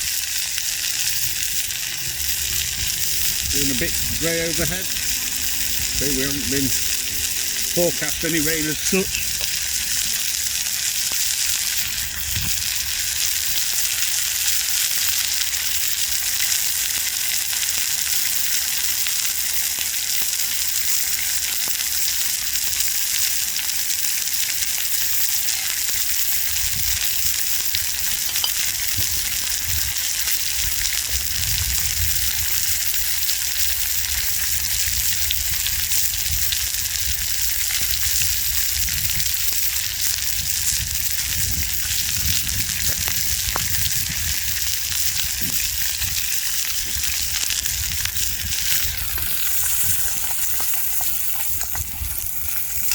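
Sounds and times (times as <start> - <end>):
steak sizzling in a frying pan: 0.0 - 52.9.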